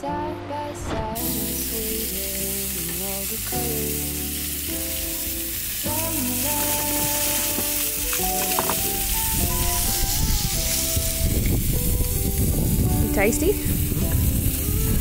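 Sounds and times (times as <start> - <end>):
background music: 0.0 - 15.0
food sizzling in a frying pan: 1.2 - 15.0.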